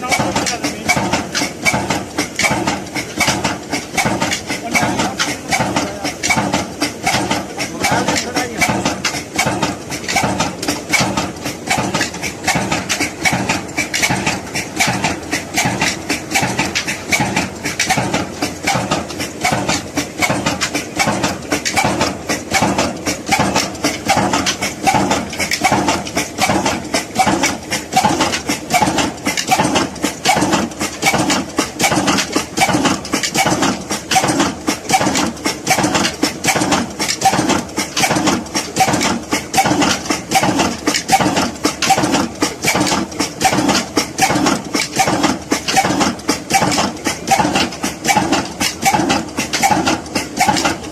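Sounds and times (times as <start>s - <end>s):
diesel engine running slowly: 0.0s - 50.9s.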